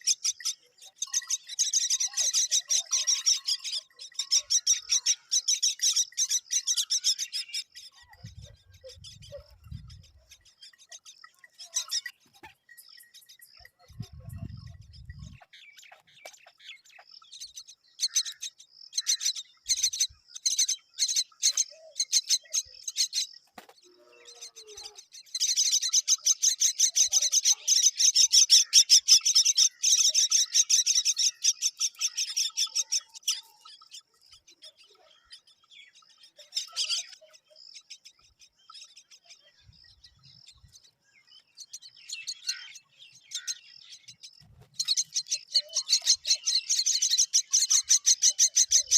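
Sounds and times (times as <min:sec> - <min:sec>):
baby birds chirping: 0:00.0 - 0:48.9.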